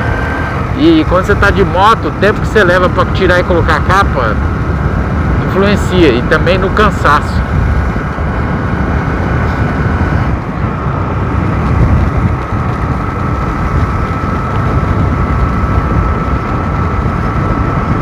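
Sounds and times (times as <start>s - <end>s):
motorcycle engine and road rumble: 0.0s - 18.0s
whining tone: 0.0s - 18.0s
wind on microphone: 0.0s - 18.0s.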